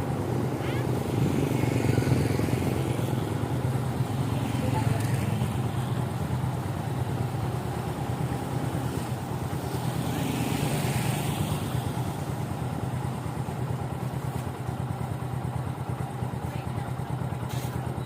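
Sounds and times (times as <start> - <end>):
motorcycle engine running: 0.0 - 18.0
road or wind noise: 0.0 - 18.0.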